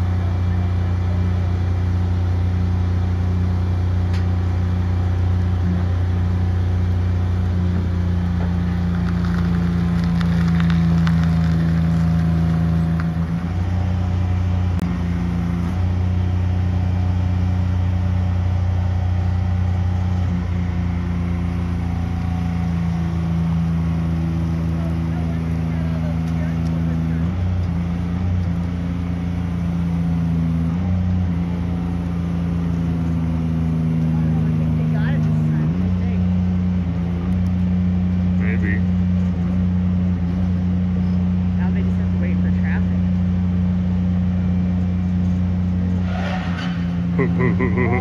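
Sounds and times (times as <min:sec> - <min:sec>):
truck diesel engine droning: 0:00.0 - 0:48.0.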